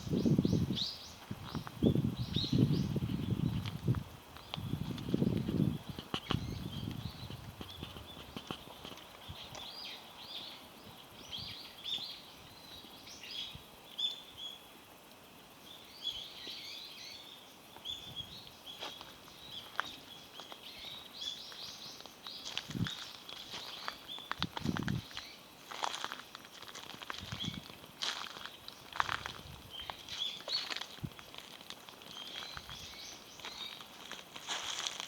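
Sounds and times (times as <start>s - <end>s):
small birds chirping: 0.0s - 14.7s, 15.6s - 35.0s
outdoor background noise: 0.0s - 35.0s.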